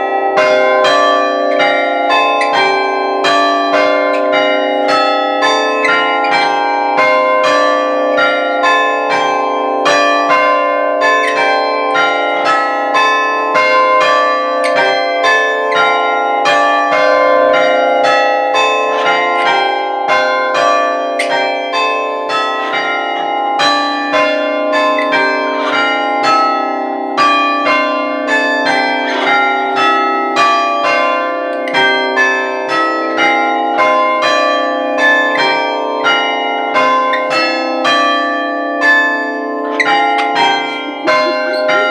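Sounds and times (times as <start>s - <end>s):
church bells chiming: 0.0s - 41.9s.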